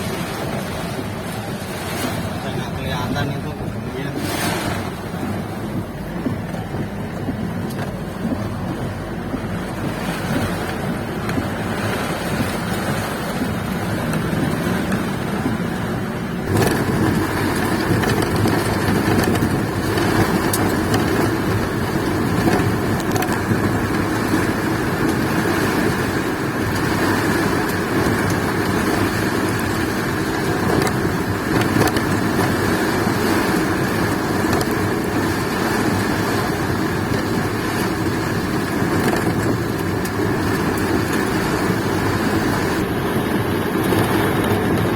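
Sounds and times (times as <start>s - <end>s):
rain rushing: 0.0s - 44.9s
storm wind: 0.0s - 44.9s.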